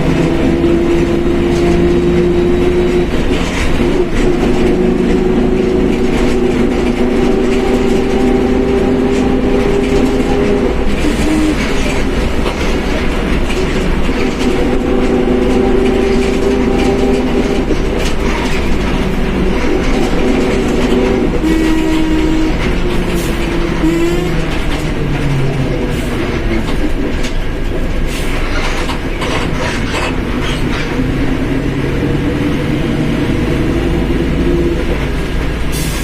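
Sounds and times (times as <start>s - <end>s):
bus differential whine: 0.0s - 36.0s
engine and road rumble: 0.0s - 36.0s.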